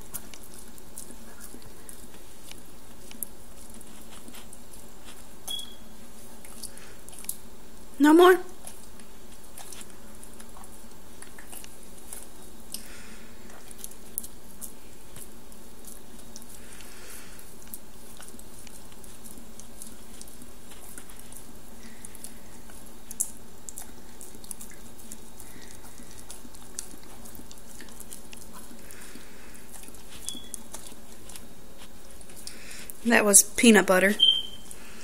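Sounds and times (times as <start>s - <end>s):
dog licking and smacking: 0.0s - 7.5s, 8.5s - 33.0s.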